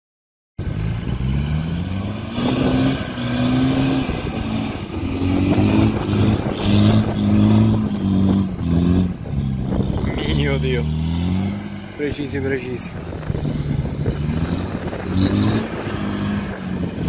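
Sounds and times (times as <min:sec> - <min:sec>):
engine revving hard: 0:01.0 - 0:12.3, 0:13.2 - 0:17.0.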